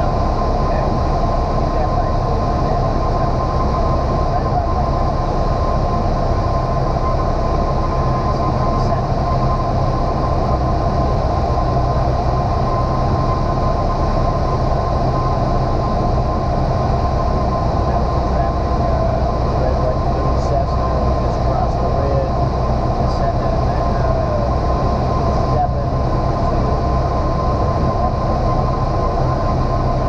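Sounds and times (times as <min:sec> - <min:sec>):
light aircraft engine drone: 0:00.0 - 0:30.0
thin steady whine: 0:00.0 - 0:30.0.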